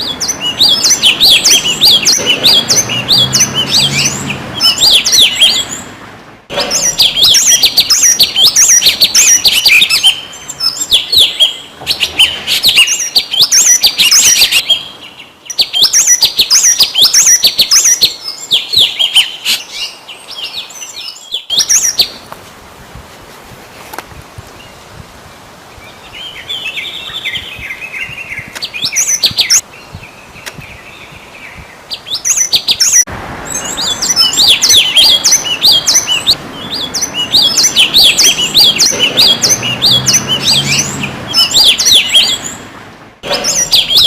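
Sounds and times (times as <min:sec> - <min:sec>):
songbird chirping: 0:00.0 - 0:22.4, 0:23.8 - 0:44.0.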